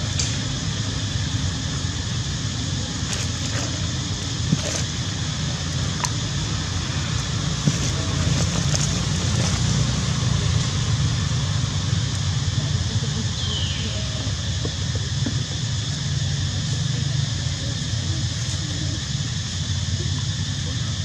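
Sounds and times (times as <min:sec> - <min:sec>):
outdoor rumble and hiss: 0:00.0 - 0:21.0.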